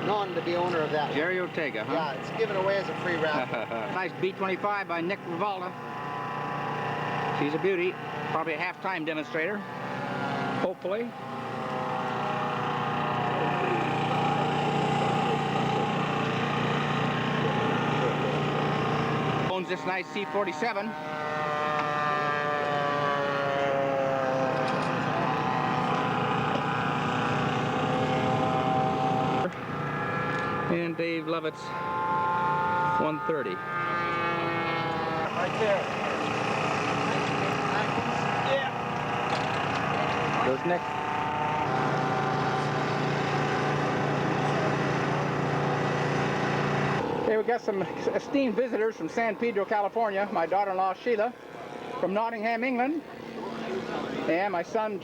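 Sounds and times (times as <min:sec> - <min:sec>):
model aircraft engine running: 0:00.0 - 0:55.0.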